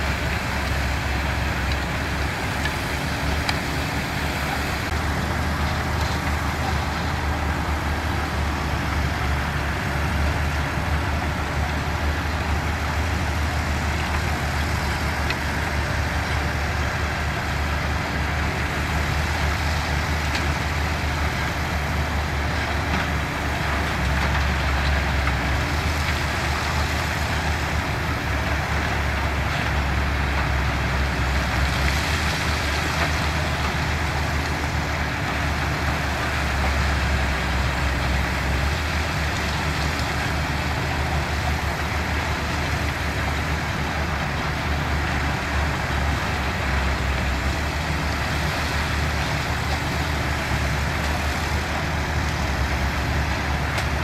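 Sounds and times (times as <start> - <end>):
construction machinery engines rumbling: 0.0 - 54.0.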